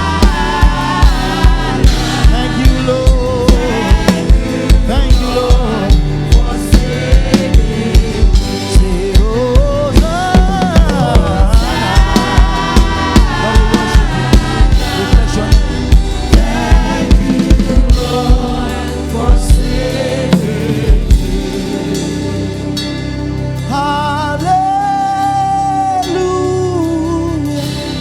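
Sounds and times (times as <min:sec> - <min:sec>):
drum kit beat: 0:00.0 - 0:22.9
worship team singing: 0:00.0 - 0:26.4
band playing: 0:00.0 - 0:28.0.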